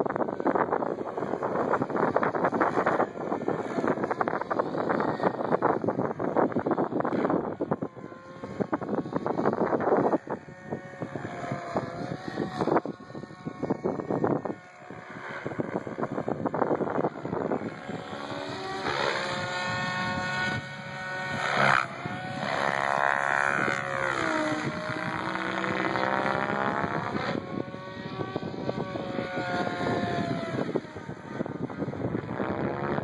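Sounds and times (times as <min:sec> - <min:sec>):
rc helicopter motor whine and rotor: 0:00.0 - 0:33.0.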